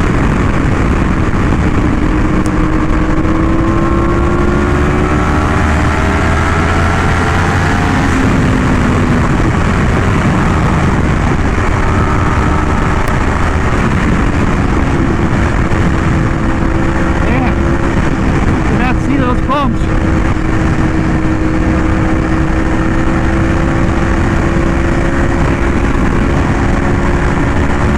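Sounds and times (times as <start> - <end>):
motorcycle engine running: 0.0 - 27.9
wind noise rushing: 0.0 - 27.9.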